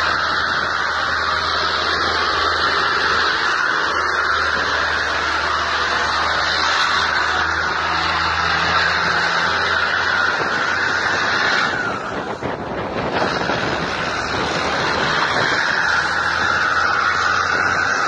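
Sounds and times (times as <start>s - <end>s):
car road noise: 0.0s - 18.0s
wind rush through car window: 0.0s - 18.0s.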